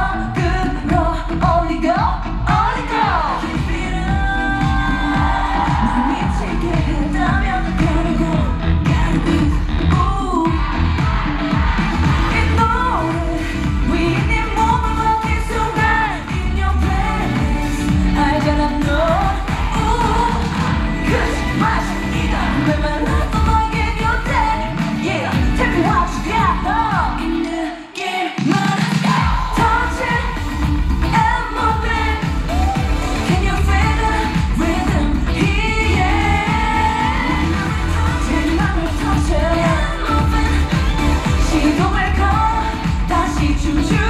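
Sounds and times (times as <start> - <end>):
pop backing track with bass: 0.0 - 27.8, 28.5 - 44.0
woman singing into microphone: 0.0 - 44.0.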